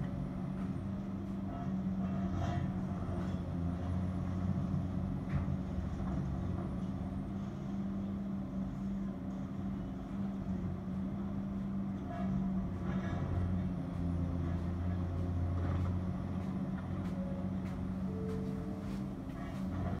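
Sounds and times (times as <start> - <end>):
excavator diesel engines: 0.0 - 20.0.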